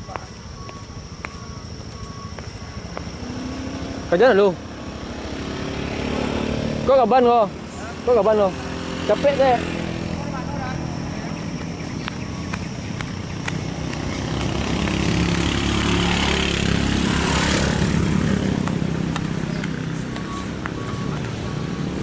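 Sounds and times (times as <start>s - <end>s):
motorcycle passing: 0.2s - 22.0s.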